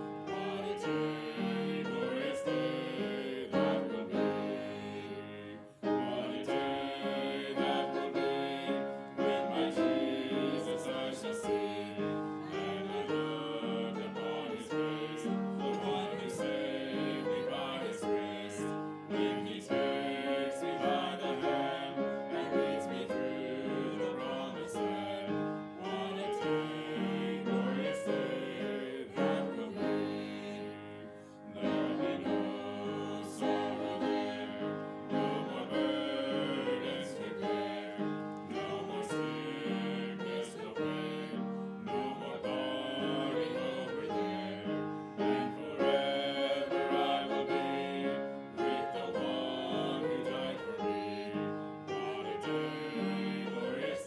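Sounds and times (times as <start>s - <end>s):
church piano music: 0.0s - 54.0s.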